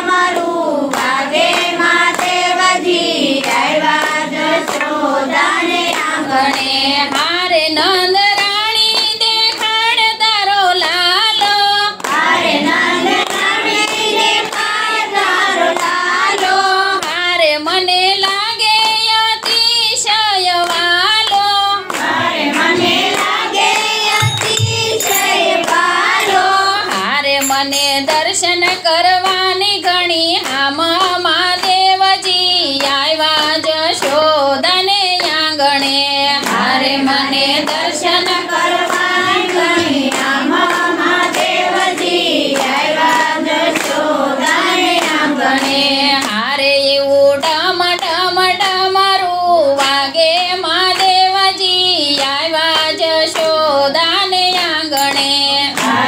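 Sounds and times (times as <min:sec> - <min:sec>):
hand claps beat: 0:00.0 - 0:56.0
women singing devotional song: 0:00.0 - 0:56.0.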